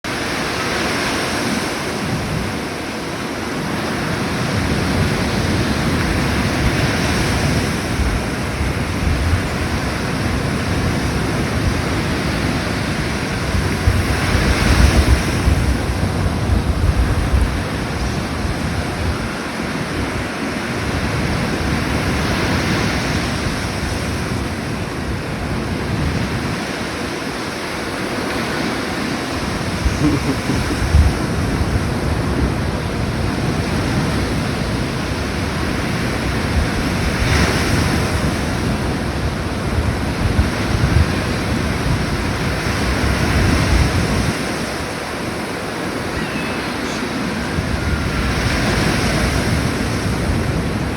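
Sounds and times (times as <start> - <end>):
sea waves on shore: 0.1 - 50.9
wind buffeting microphone: 1.3 - 50.9.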